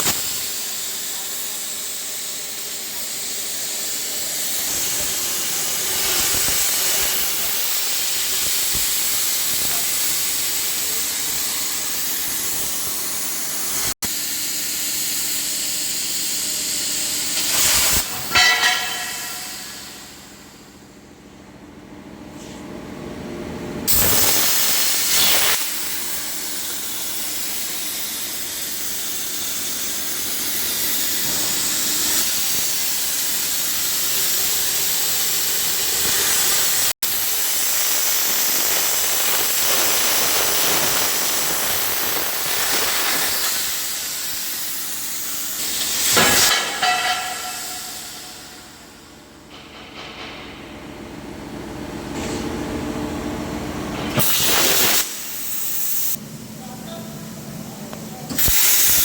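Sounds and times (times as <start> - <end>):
plasma torch hissing: 0.0 - 20.4, 23.9 - 49.1, 54.1 - 56.2, 58.3 - 59.0.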